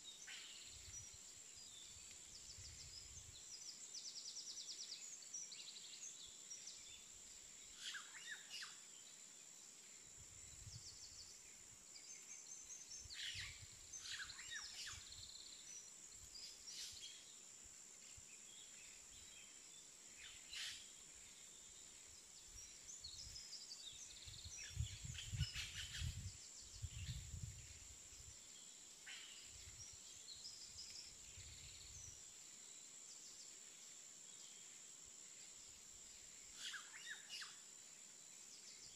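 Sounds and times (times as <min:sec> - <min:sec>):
faint birds chirping: 0:00.0 - 0:38.9.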